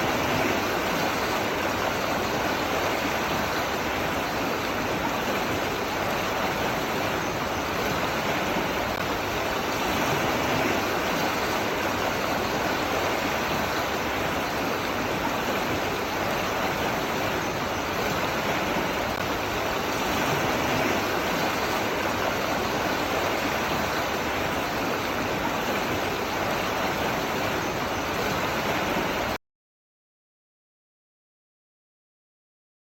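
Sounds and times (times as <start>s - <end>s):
water rushing: 0.0s - 29.4s.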